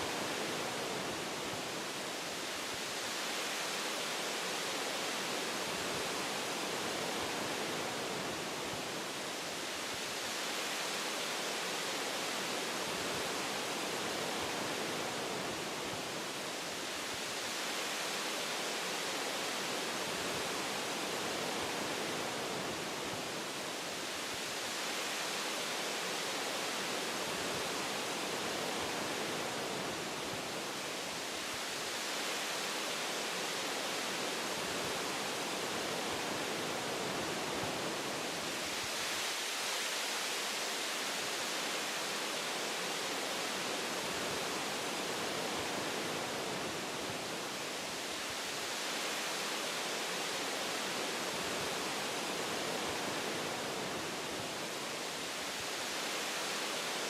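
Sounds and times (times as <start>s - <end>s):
wind through tree branches: 0.0s - 57.0s.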